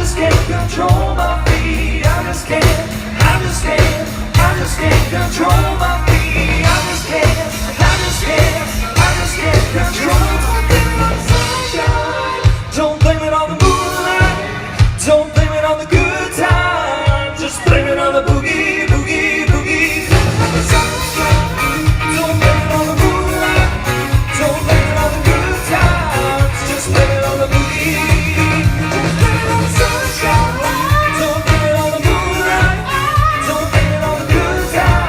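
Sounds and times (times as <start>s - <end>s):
country-pop band playing: 0.0s - 35.0s
person singing: 0.0s - 35.0s.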